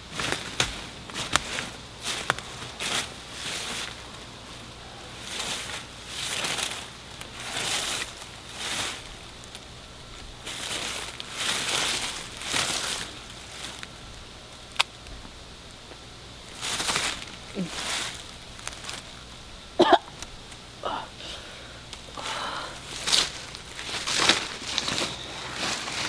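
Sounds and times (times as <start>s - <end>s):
footsteps through dry leaves: 0.0s - 14.1s, 16.4s - 19.6s, 21.9s - 26.0s.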